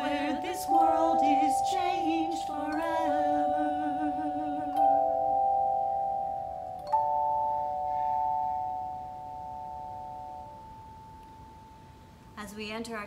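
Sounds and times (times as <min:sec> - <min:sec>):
chime bars struck with mallets: 0:00.0 - 0:12.0.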